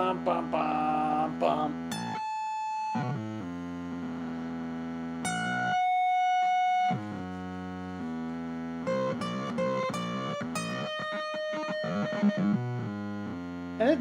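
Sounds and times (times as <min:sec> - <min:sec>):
distorted electric guitar tones: 0:00.0 - 0:14.0.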